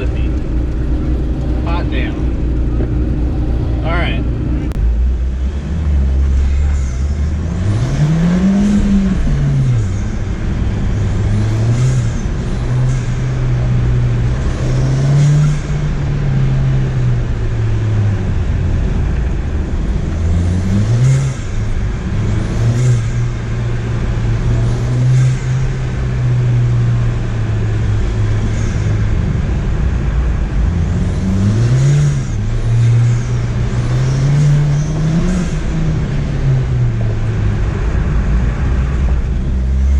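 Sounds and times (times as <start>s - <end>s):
turbocharged car engine revving: 0.0s - 39.9s.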